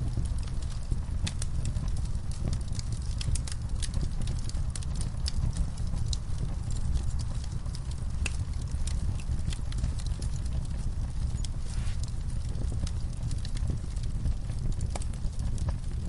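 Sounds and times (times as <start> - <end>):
fire crackling and popping: 0.0 - 16.0
steady low rumble: 0.0 - 16.0.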